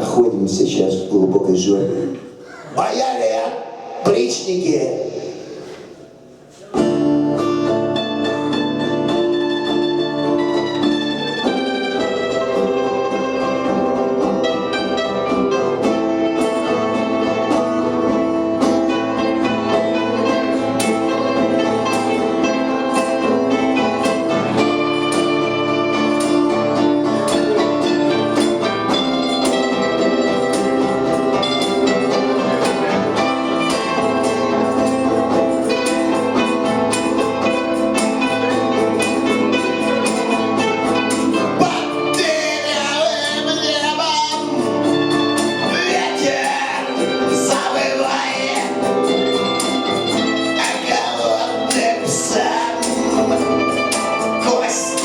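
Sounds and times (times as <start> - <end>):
punk band playing live: 5.6 - 55.0.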